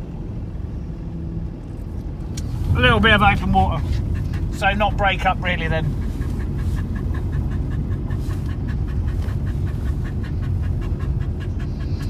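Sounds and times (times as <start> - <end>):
road noise rumble in car cabin: 0.0 - 12.0.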